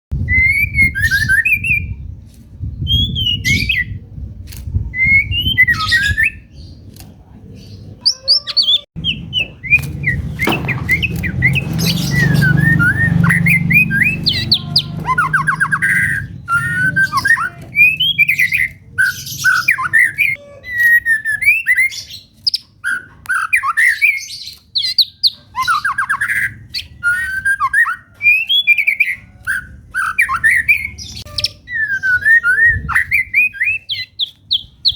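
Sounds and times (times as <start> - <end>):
bird singing whistled phrases: 5.0 - 6.5, 8.0 - 34.9.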